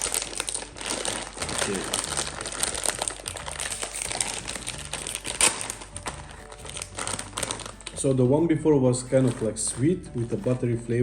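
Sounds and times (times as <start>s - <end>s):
plastic snack bag crinkling: 0.0s - 11.0s.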